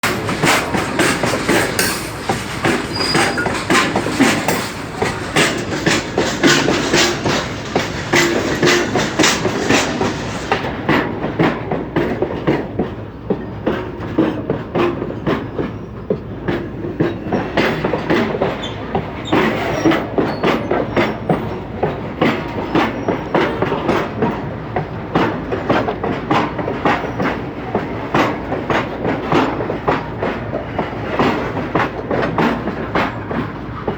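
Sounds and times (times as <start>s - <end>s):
train rumble: 0.0s - 33.9s
train wheels clacking on rails: 0.0s - 33.9s.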